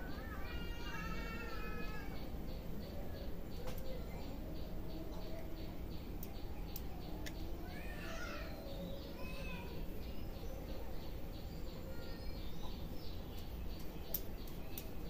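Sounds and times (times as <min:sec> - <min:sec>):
birds chirping: 0:00.0 - 0:15.0
steady background noise: 0:00.0 - 0:15.0.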